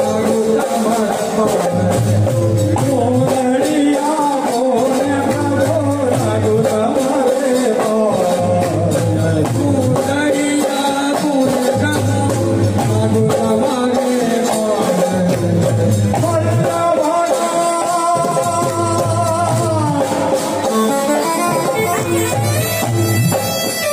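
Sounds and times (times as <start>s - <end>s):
devotional singing: 0.0s - 21.3s
drums: 0.0s - 23.9s
jingling shaker percussion: 0.0s - 23.9s.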